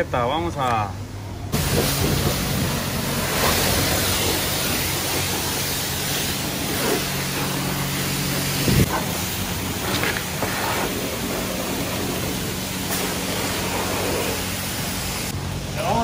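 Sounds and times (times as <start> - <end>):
low pump hum: 1.0 - 16.0
pressure washer spraying water: 1.6 - 15.6.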